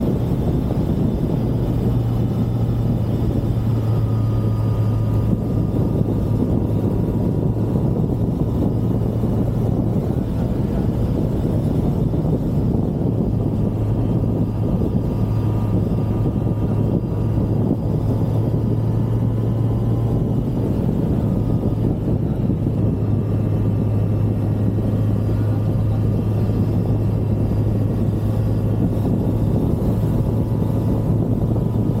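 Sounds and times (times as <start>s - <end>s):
motorcycle engine humming: 0.0s - 32.0s
road and wind noise: 0.0s - 32.0s.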